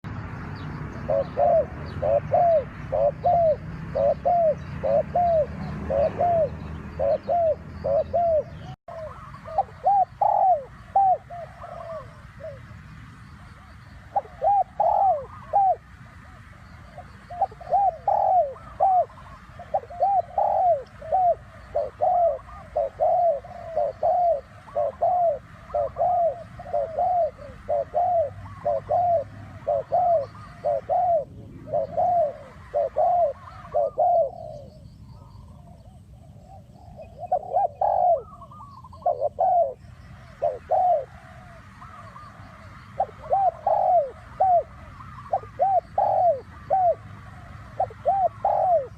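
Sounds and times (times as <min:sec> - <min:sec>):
dove cooing: 0:00.9 - 0:48.9.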